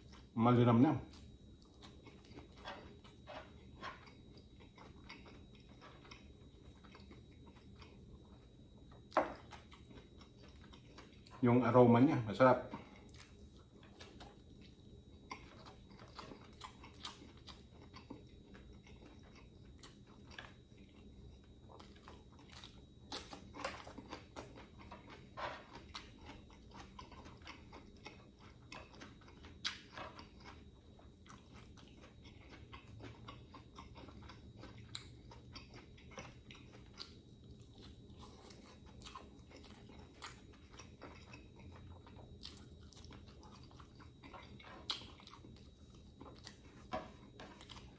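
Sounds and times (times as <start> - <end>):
person chewing food: 0.0 - 0.4, 1.0 - 11.4, 12.7 - 47.9.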